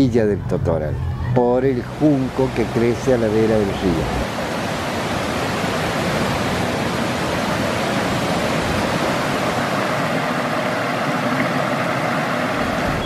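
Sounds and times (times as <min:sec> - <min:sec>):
water rushing over a weir: 0:01.4 - 0:13.0.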